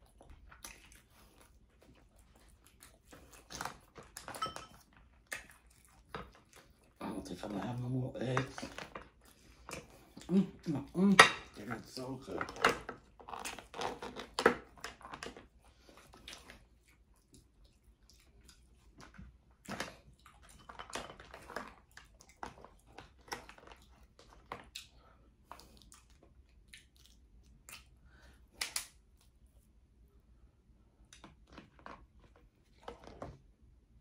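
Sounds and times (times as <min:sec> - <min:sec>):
chewing: 0:00.0 - 0:29.6, 0:31.0 - 0:33.4.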